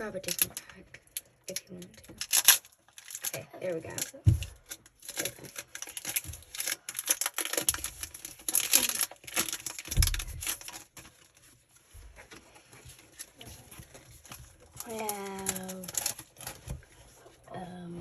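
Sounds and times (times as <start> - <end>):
foil wrapper crinkling and tearing: 0.0 - 17.3
cards being handled: 1.5 - 17.4.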